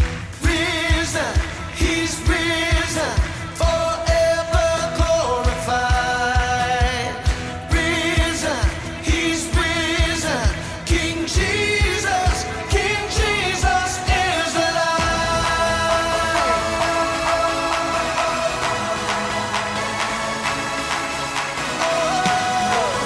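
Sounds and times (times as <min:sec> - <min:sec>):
pop song with singing and drums: 0:00.0 - 0:23.0.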